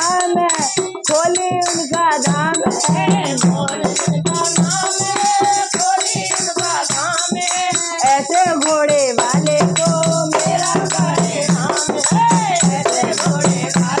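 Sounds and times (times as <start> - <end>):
boy singing: 0.0 - 14.0
hand drum beats: 0.0 - 14.0
women singing: 0.0 - 14.0.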